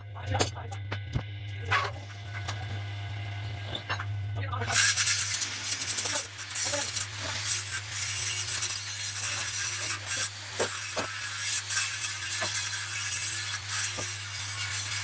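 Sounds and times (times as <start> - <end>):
low electric hum: 0.0 - 15.0
metal scraping and rasping: 1.6 - 15.0.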